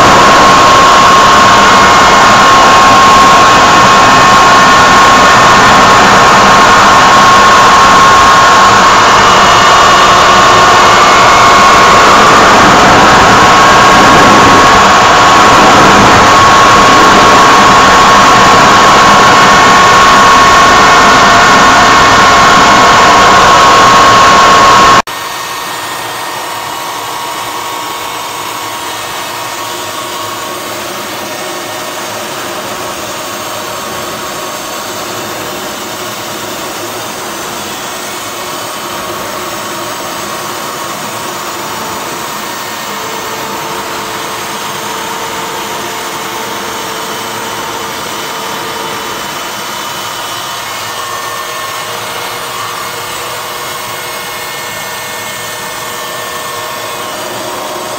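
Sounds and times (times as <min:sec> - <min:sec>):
jet aircraft cockpit roar: 0:00.0 - 0:57.9
loud engine sound: 0:00.0 - 0:57.9.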